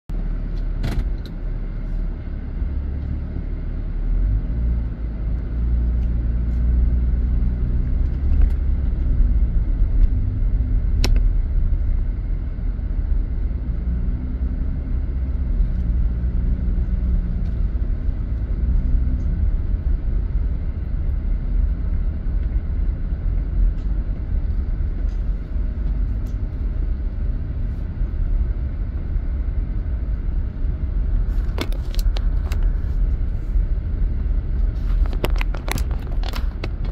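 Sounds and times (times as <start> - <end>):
car engine and road noise: 0.1 - 36.9.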